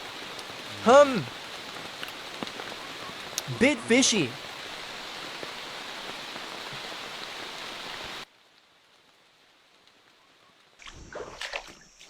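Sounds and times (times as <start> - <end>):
steady rain falling: 0.0 - 11.6.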